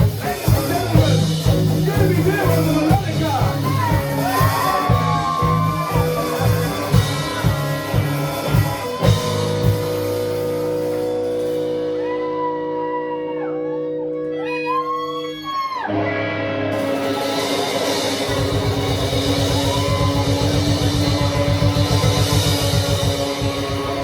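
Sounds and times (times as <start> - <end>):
electric guitar bending lead notes: 0.0 - 24.0
live rock band playing: 0.0 - 24.0.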